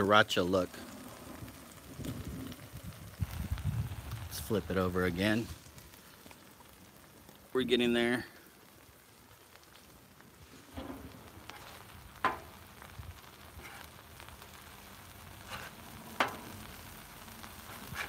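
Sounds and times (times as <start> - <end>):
burger patties sizzling on griddle: 0.0 - 18.0.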